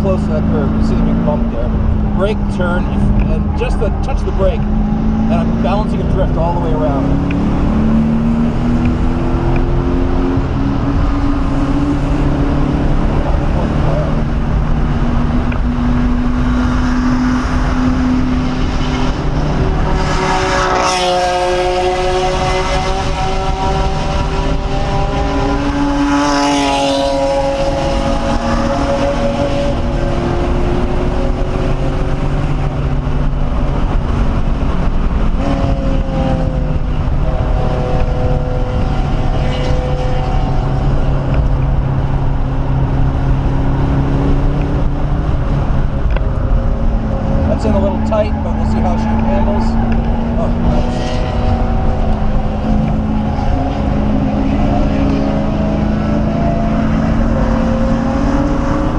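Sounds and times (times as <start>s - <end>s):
car engine revving: 0.0s - 58.9s
road and wind noise: 0.0s - 58.9s.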